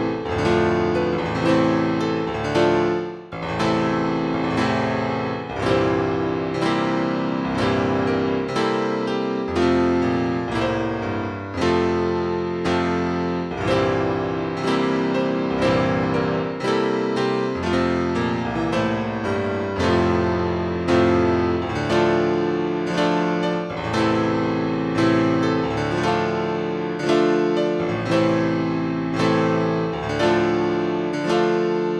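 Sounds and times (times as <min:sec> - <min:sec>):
solo piano chords: 0:00.0 - 0:31.9.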